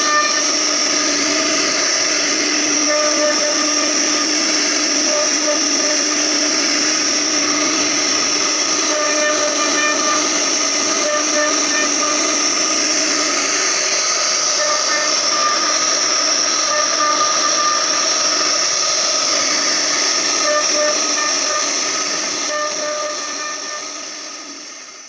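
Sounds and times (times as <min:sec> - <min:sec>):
bit cutting wood: 0:00.0 - 0:25.0
router spindle whining: 0:00.0 - 0:25.0.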